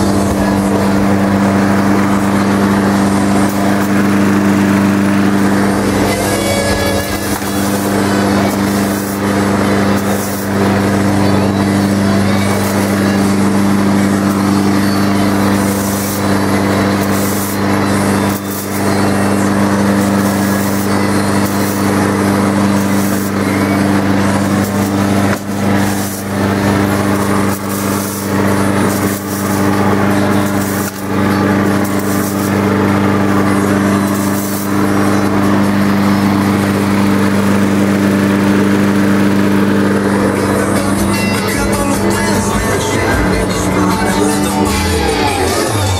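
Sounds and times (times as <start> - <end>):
lawn mower engine running: 0.0 - 45.9.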